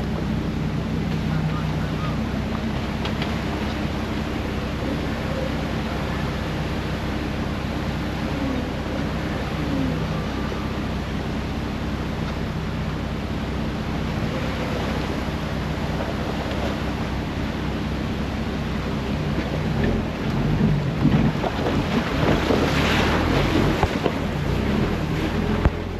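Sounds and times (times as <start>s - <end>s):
engine hum: 0.0s - 25.9s
road noise: 0.0s - 25.9s
rushing wind: 0.0s - 25.9s.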